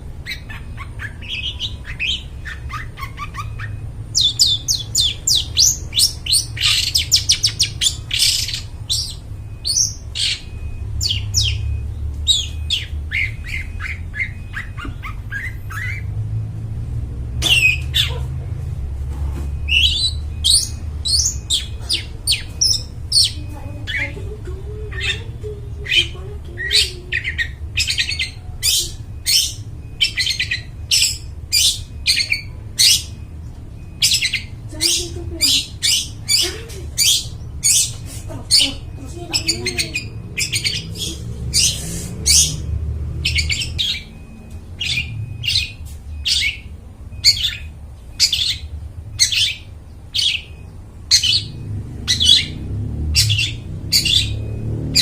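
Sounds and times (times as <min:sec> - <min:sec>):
bird singing chirps: 0:00.0 - 0:16.5, 0:18.8 - 0:55.0.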